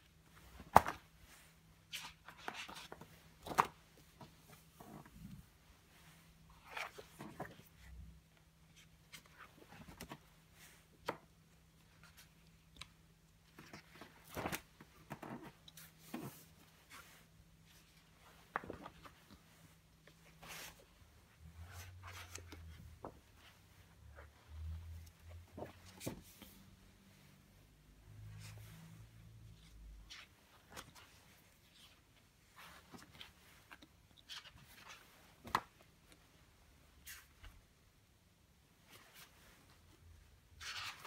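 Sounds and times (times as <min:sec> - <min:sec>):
wallpaper pages rustling and slapping: 0:00.2 - 0:07.9, 0:08.7 - 0:27.4, 0:28.2 - 0:37.7, 0:38.8 - 0:41.0.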